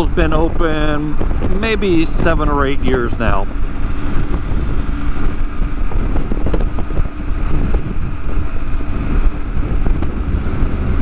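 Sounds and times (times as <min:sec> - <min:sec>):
motorcycle engine drone: 0:00.0 - 0:11.0
wind rush on microphone: 0:00.0 - 0:11.0.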